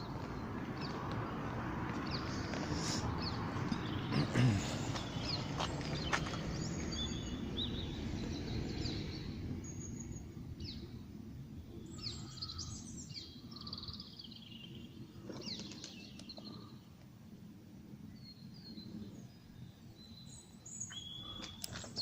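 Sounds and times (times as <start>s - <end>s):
small birds chirping: 0.0s - 17.4s, 18.0s - 22.0s.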